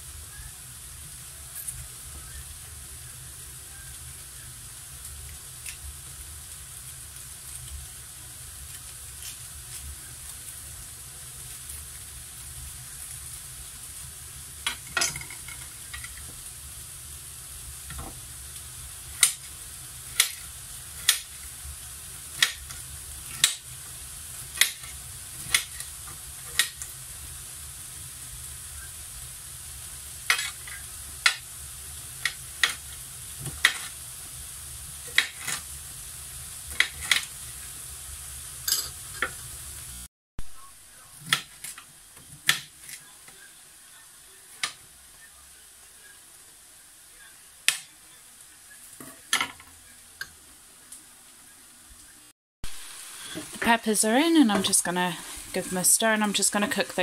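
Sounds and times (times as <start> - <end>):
onions sizzling in frying pan: 0.0 - 57.0.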